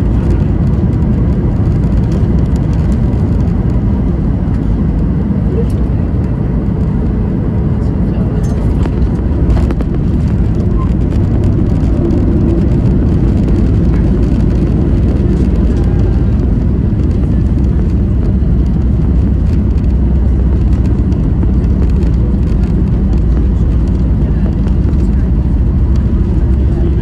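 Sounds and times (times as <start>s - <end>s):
airplane engine rumble in cabin: 0.0s - 27.0s.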